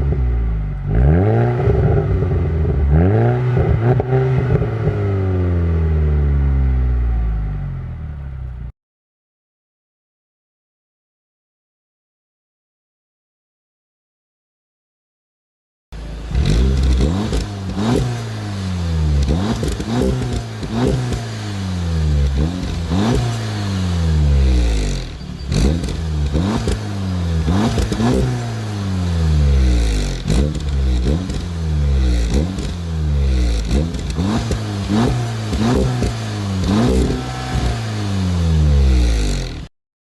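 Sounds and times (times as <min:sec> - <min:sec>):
sports car engine revving: 0:00.0 - 0:08.6, 0:16.0 - 0:39.7.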